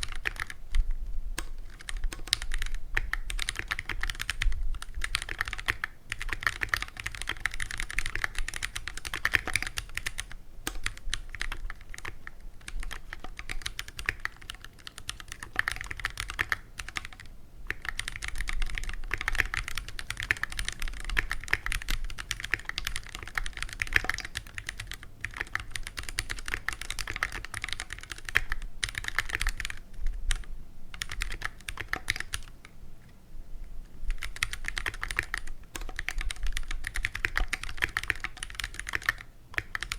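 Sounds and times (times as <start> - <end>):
mechanical keyboard typing: 0.0 - 32.6, 34.1 - 39.9.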